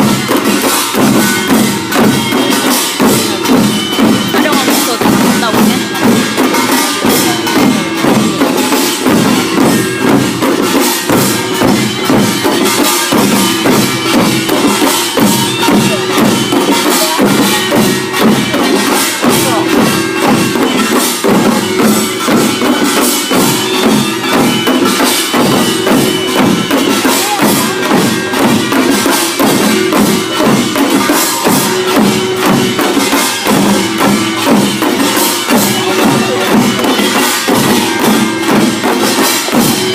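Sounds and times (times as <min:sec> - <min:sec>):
drums: 0:00.0 - 0:39.9
percussion band playing fast rhythm: 0:00.0 - 0:39.9
small gongs clanging: 0:00.0 - 0:39.9.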